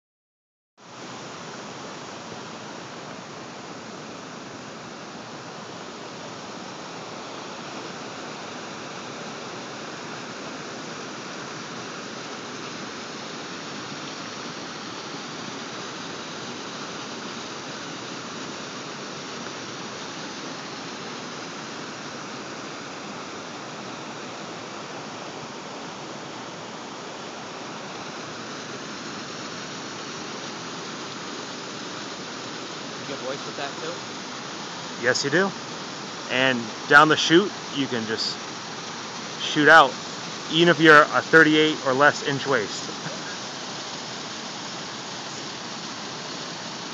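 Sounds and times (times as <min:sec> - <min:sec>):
waterfall rushing into a pool: 0:00.8 - 0:46.9.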